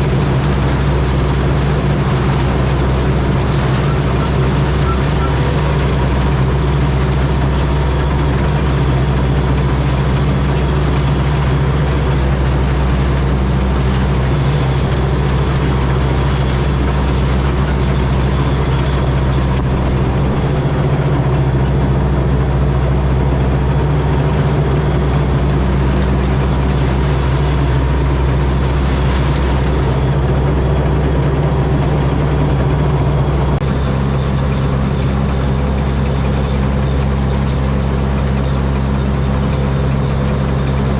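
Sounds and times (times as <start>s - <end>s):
combine harvester engine running: 0.0s - 40.9s
machinery clatter: 0.0s - 40.9s.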